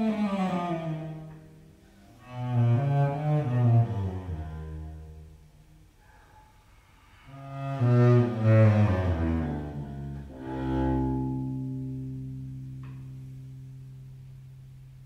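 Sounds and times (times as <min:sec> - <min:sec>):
bowed cello notes: 0:00.0 - 0:15.0.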